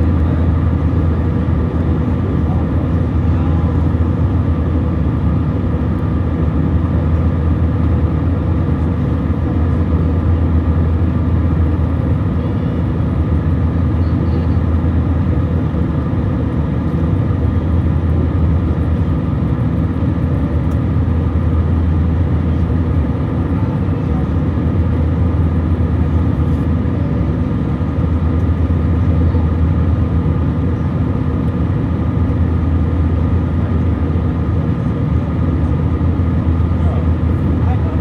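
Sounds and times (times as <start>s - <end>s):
airliner cabin engine drone: 0.0s - 38.0s.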